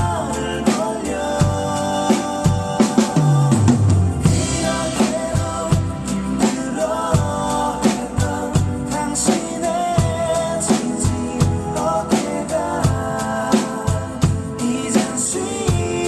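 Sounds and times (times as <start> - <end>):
bass and backing instruments: 0.0 - 16.0
drum-kit beat: 0.0 - 16.0
person singing: 0.0 - 16.0.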